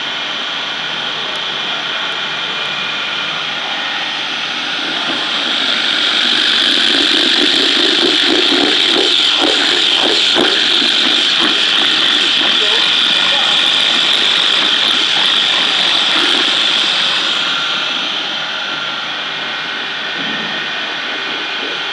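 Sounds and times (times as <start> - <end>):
grinding machine whining: 0.0 - 21.9.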